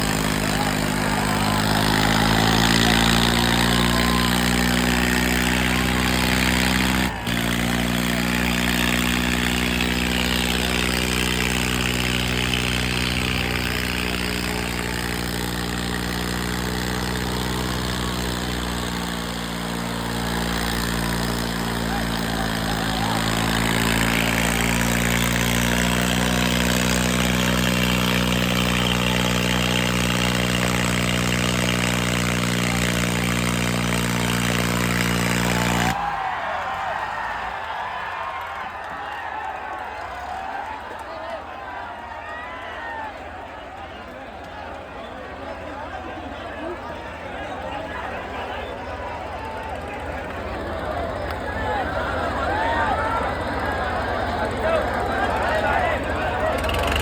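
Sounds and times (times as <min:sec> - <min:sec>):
tractor diesel engine running: 0:00.0 - 0:42.0, 0:42.6 - 0:57.0.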